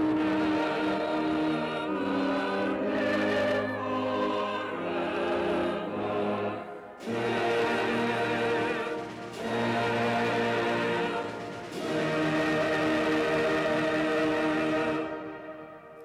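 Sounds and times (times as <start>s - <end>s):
choir singing held chords: 0.0s - 16.0s
instrumental accompaniment: 0.0s - 16.0s.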